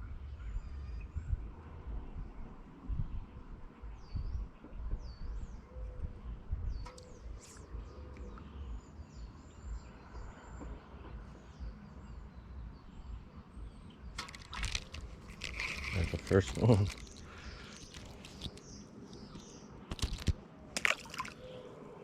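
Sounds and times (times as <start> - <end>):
wind rumble on microphone: 0.0 - 20.4
small birds chirping: 3.8 - 21.8.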